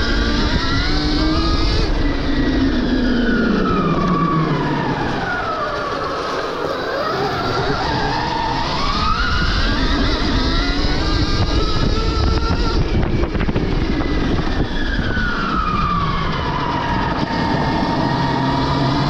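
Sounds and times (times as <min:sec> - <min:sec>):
electric motor whining: 0:00.0 - 0:19.0
wind and trail rumble: 0:00.0 - 0:19.0.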